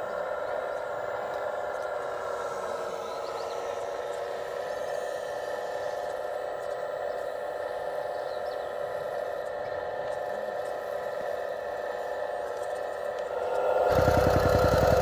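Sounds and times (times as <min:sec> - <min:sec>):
hydraulic pump whine: 0:00.0 - 0:15.0.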